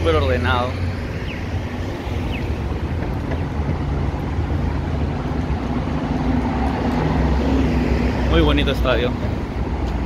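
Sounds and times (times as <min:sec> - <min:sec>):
street traffic passing: 0:00.0 - 0:10.0
wind buffeting microphone: 0:00.0 - 0:10.0.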